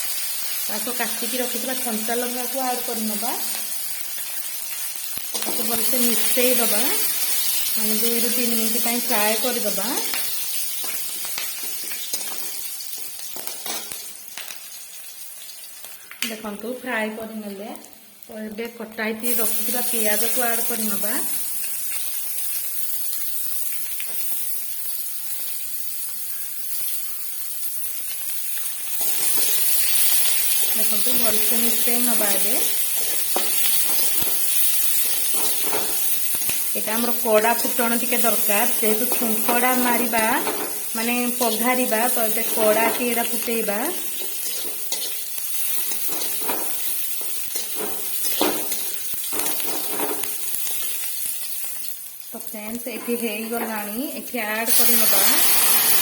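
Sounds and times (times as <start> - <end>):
onion sizzling in oil: 0.0 - 56.0.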